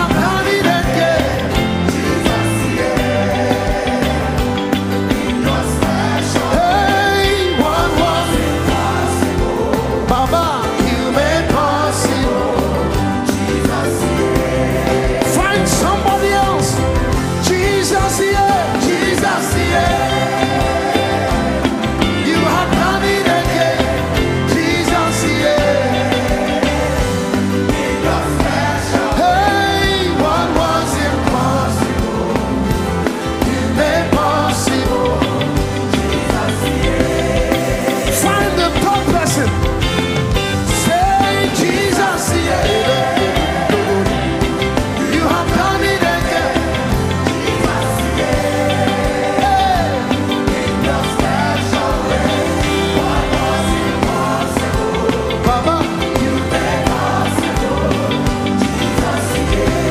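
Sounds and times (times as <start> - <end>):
bass: 0.0 - 59.9
drums: 0.0 - 59.9
live gospel band: 0.0 - 59.9
ornamented lead melody: 0.0 - 59.9.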